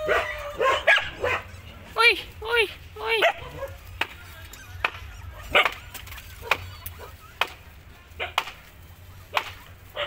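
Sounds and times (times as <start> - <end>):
puppies yapping: 0.0 - 1.7, 3.1 - 10.0.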